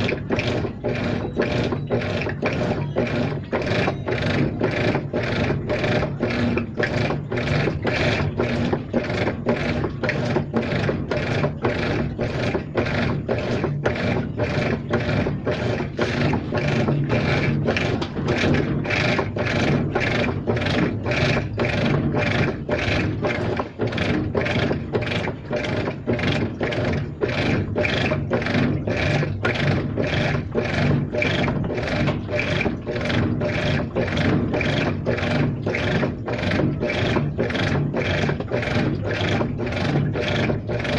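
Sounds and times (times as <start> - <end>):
rhythmic repeating noise: 0.0 - 40.9
washing machine running: 0.0 - 40.9.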